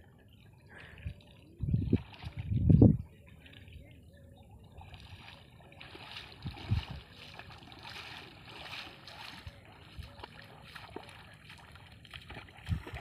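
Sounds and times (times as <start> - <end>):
wading through floodwater: 0.0 - 13.0.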